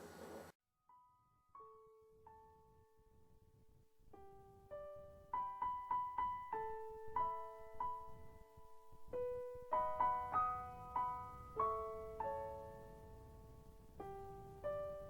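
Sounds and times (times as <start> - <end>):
piano-like keyboard melody: 0.9 - 15.0.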